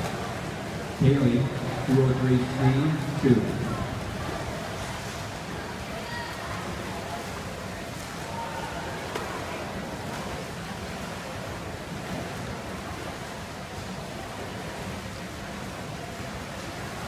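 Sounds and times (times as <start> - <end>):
indoor pool hall ambience: 0.0 - 17.0.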